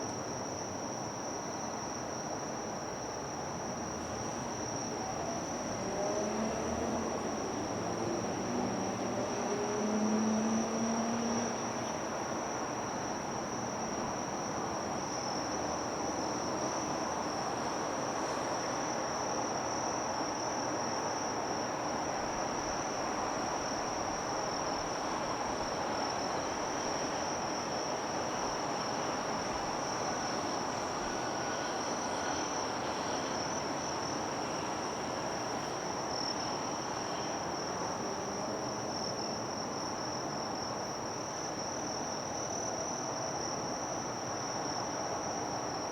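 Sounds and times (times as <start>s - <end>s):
crickets trilling: 0.0s - 45.9s
outdoor background noise: 0.0s - 45.9s.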